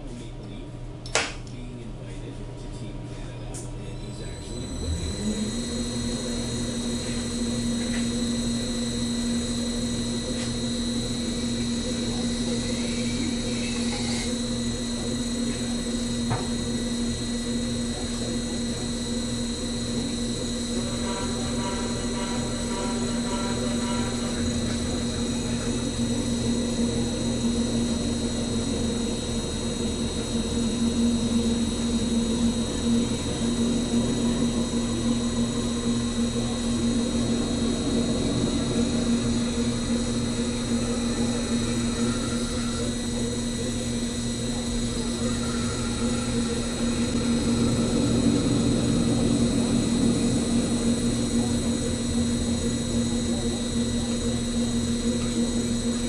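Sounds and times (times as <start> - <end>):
metal spinning lathe humming: 3.7 - 56.0.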